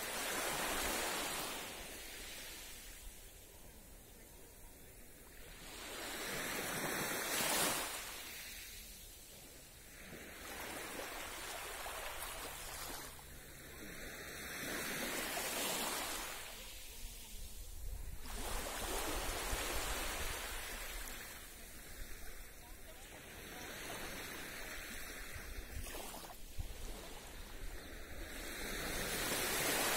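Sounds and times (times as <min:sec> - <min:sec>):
waves washing onto beach: 0:00.0 - 0:29.9.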